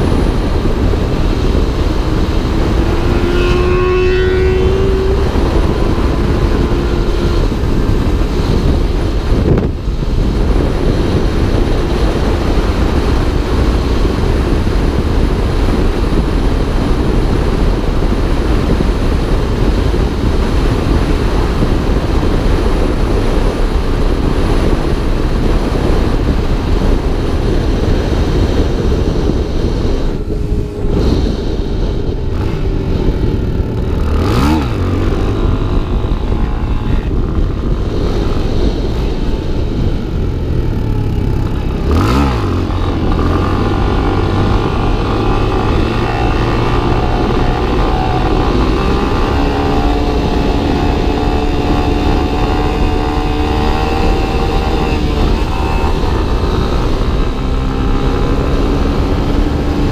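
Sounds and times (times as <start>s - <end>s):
motorcycle engine: 0.0s - 59.9s
wind rush: 0.0s - 59.9s.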